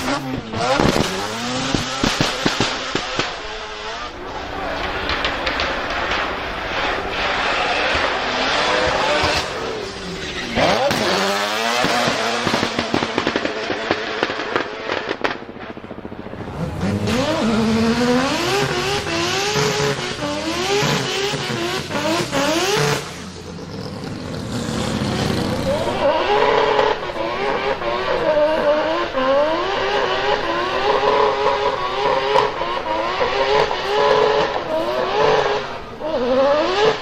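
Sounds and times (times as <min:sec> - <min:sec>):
car engine revving hard: 0:00.0 - 0:04.3, 0:05.1 - 0:15.3, 0:16.0 - 0:37.0
exhaust crackles: 0:00.0 - 0:37.0.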